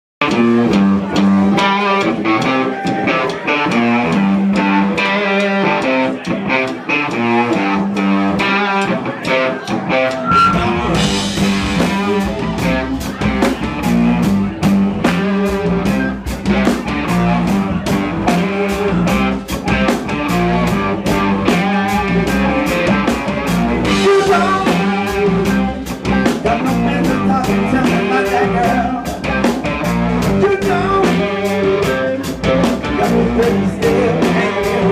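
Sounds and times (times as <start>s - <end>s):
live rock band playing: 0.2s - 34.9s.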